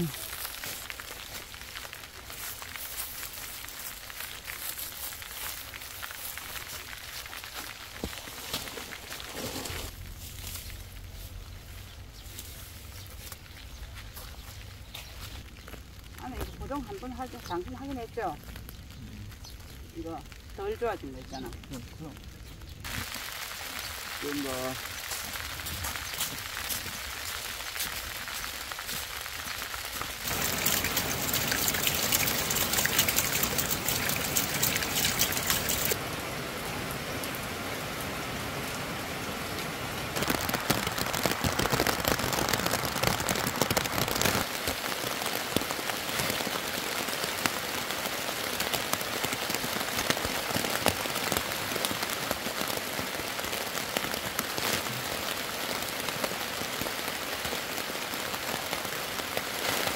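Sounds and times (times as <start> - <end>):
rain on plastic and wet ground: 0.0 - 59.9.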